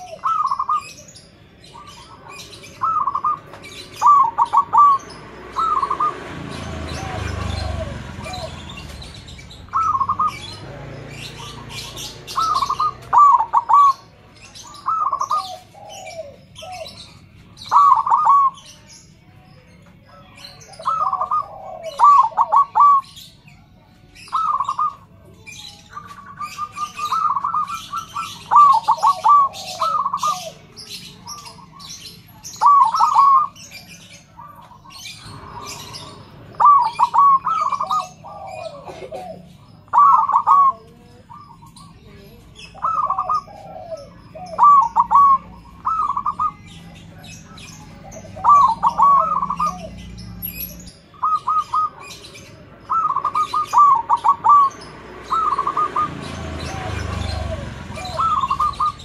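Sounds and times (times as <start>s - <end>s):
dove cooing: 0.0s - 18.9s, 20.3s - 59.0s
small birds chirping: 0.0s - 59.0s.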